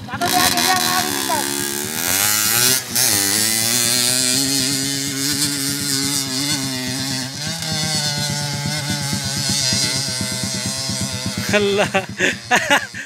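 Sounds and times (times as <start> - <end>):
motorcycle engine revving hard: 0.0 - 13.0.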